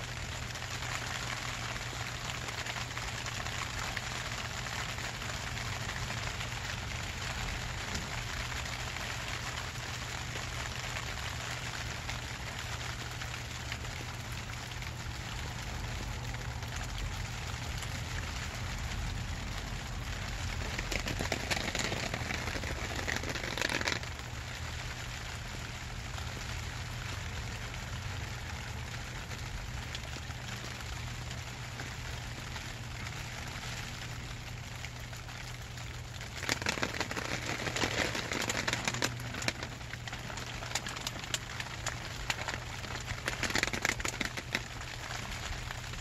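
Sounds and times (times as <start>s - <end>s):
rain on plastic sheet: 0.0s - 46.0s.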